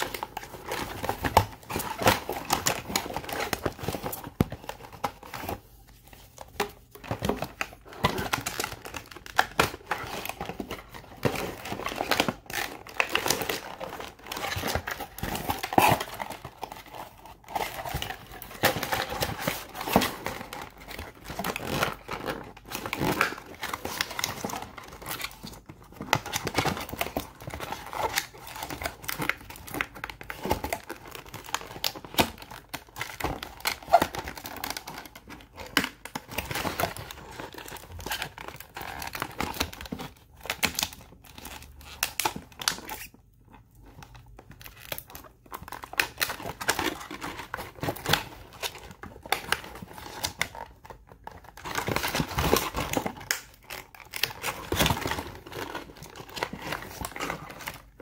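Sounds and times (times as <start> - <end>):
cardboard packaging rustling: 0.0 - 58.0.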